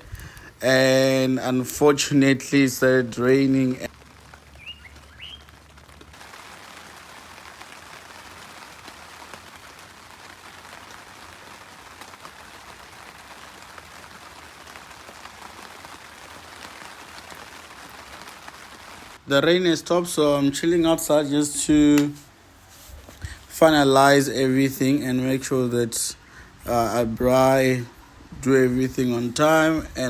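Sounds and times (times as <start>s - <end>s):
rain falling steadily: 0.0s - 30.0s.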